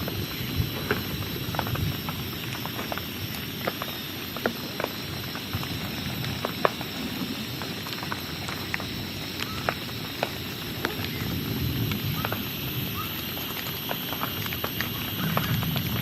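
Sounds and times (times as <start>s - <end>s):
sharp drips and ticks: 0.0s - 16.0s
steady rain: 0.0s - 16.0s.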